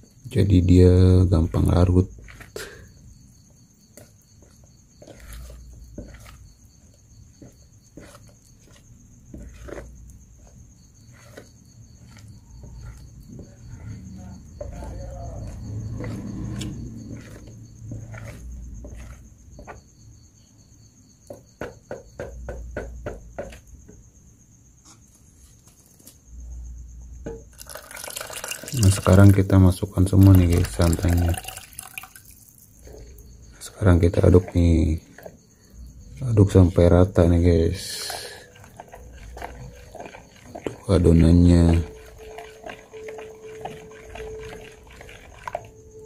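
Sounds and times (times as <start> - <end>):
spoon stirring batter: 0.0 - 24.1, 27.2 - 46.0
high insect trill: 0.0 - 46.0.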